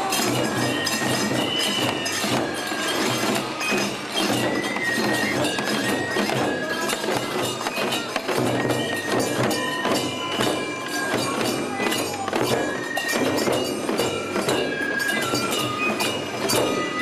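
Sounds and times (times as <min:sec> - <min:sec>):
bamboo flutes: 0:00.0 - 0:17.0
hand cymbals clashing: 0:00.0 - 0:17.0
taiko drum beat: 0:00.0 - 0:17.0.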